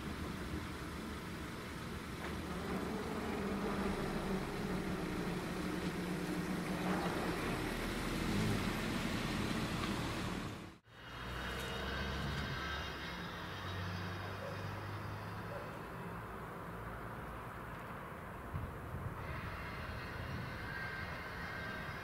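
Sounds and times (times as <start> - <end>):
road rumble: 0.0 - 22.0
vehicle engine hum: 0.0 - 22.0.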